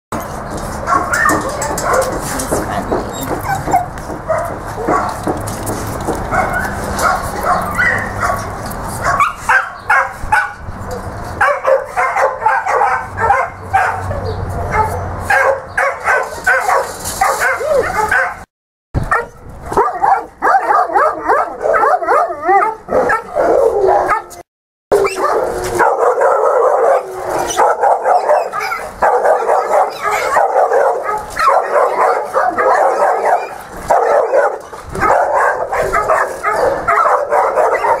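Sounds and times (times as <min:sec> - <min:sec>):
dogs barking and howling: 0:00.7 - 0:02.6, 0:03.3 - 0:05.4, 0:06.1 - 0:18.5, 0:19.1 - 0:38.0.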